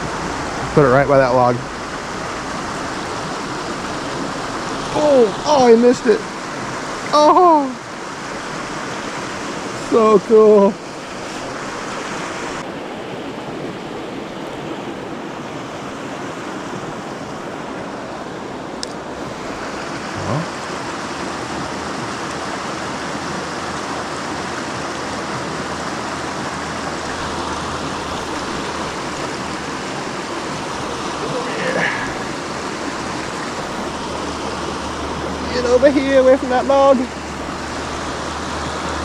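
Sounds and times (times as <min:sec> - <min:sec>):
river rushing over rocks: 0:00.0 - 0:39.0.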